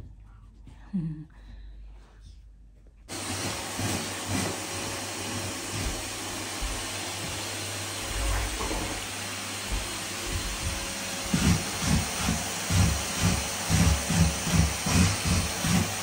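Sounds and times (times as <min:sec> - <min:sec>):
vacuum cleaner running on carpet: 0:03.1 - 0:16.0.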